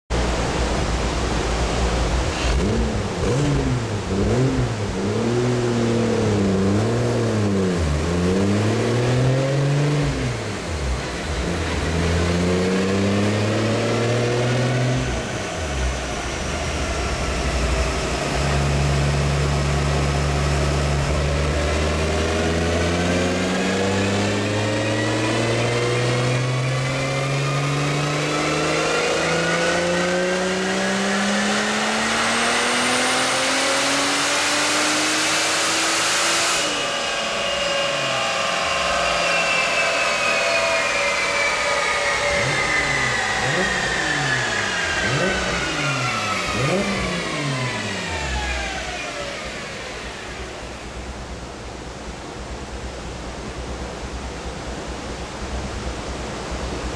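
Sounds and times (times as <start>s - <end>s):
turbocharged engine revving: 2.2s - 51.2s.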